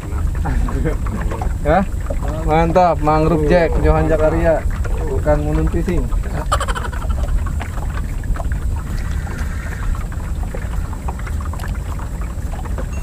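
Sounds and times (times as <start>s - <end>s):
low uneven rumble: 0.0s - 13.0s
water lapping against boat hull: 0.0s - 13.0s.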